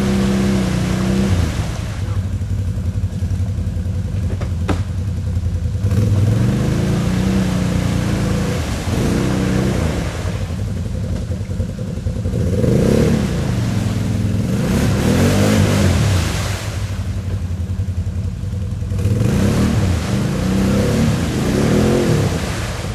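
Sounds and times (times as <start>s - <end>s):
atv engine revving: 0.0s - 22.9s.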